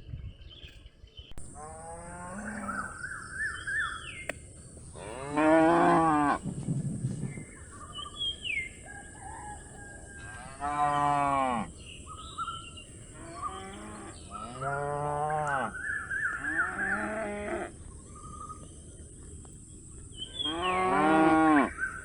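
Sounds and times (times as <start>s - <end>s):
small birds chirping: 2.3s - 5.3s, 6.1s - 10.0s, 10.8s - 22.0s.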